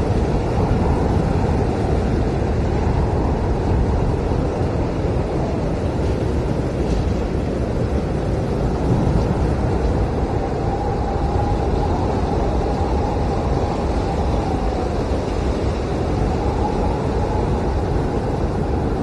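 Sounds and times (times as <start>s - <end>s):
howling blizzard wind: 0.0s - 19.0s.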